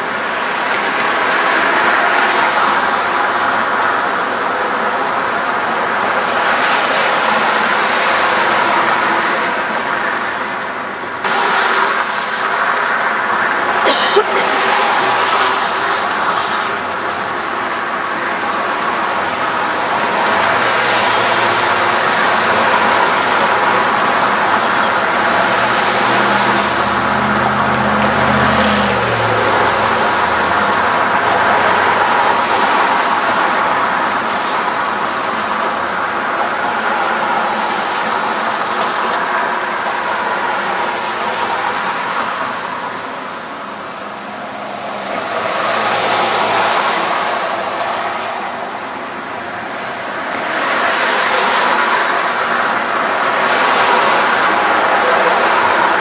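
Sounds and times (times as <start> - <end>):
city street traffic: 0.0 - 56.0.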